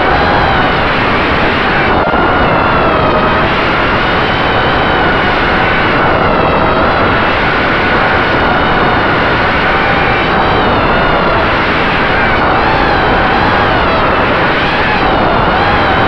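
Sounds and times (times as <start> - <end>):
prop wash and wind rushing: 0.0 - 16.0.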